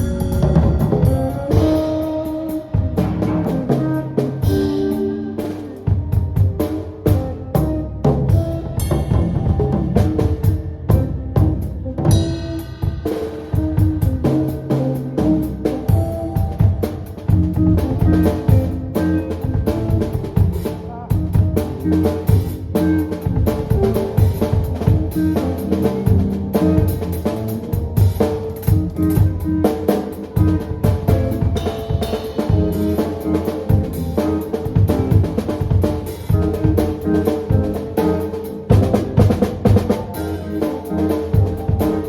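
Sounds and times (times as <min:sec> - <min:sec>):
drum kit beating: 0:00.0 - 0:42.0
live band playing: 0:00.0 - 0:42.0.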